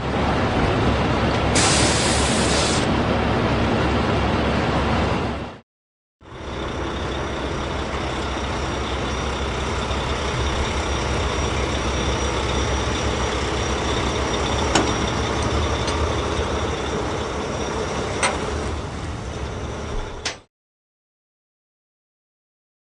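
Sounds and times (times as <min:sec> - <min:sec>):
vehicle running noise: 0:00.0 - 0:05.6, 0:06.2 - 0:20.5.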